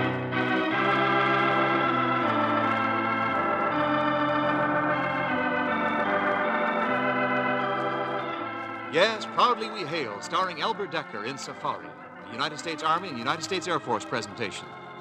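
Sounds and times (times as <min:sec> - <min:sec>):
organ music: 0:00.0 - 0:15.0.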